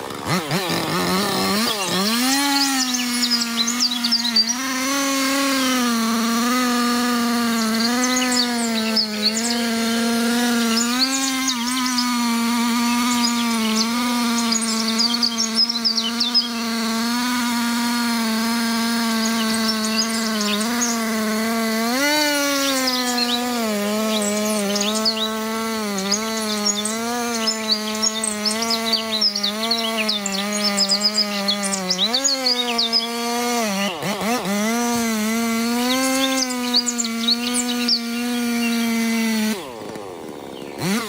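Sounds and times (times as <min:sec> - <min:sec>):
birds chirping: 0:00.0 - 0:41.0
chainsaw cutting: 0:00.0 - 0:41.0.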